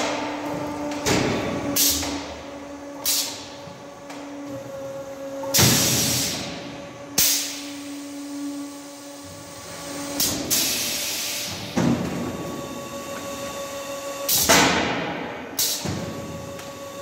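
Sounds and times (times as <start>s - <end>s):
steady motor hum: 0.0s - 17.0s.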